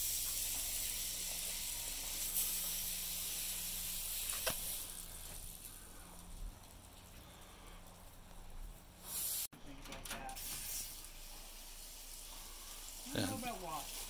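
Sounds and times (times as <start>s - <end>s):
high-pitched hiss: 0.0s - 8.1s, 9.0s - 9.5s, 10.2s - 14.0s.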